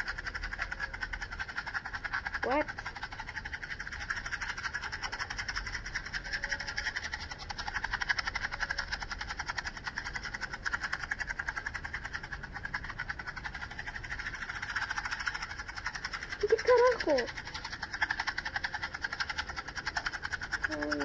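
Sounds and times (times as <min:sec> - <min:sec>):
matchbox rattling: 0:00.0 - 0:21.0.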